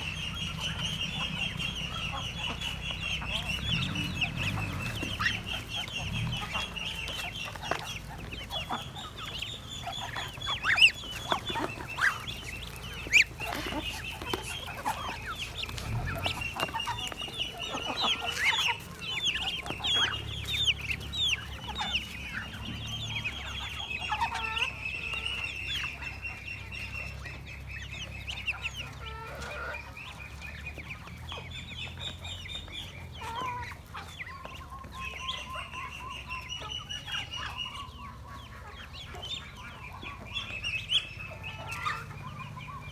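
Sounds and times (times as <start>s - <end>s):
ducklings peeping: 0.0s - 42.9s
sharp duckling calls: 0.0s - 42.9s.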